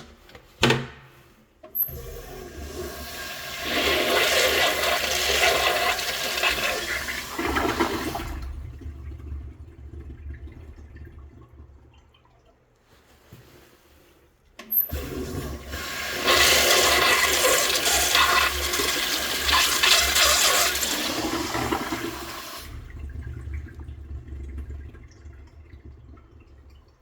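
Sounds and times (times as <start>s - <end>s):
toilet flush click: 0.0s - 12.2s, 14.6s - 27.0s
toilet water rushing: 1.7s - 12.6s, 14.6s - 27.0s
water running: 1.7s - 27.0s.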